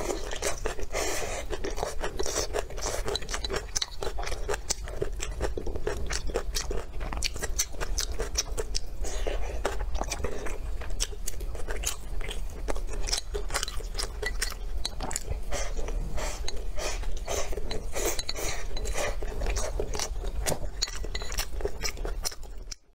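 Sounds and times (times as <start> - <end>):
chewing with wet mouth clicks: 0.0 - 23.0.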